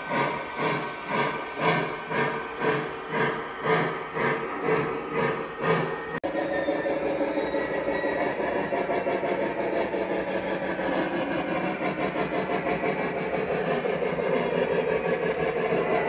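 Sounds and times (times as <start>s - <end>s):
model train motor hum: 0.0s - 16.0s
model train steam chuffing: 0.0s - 16.0s
wheels on track: 0.0s - 16.0s.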